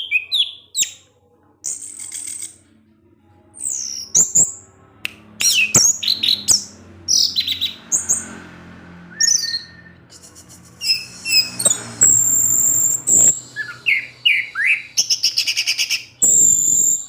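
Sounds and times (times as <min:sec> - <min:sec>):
faint low hum: 0:00.0 - 0:17.0
thrush singing: 0:01.6 - 0:17.0.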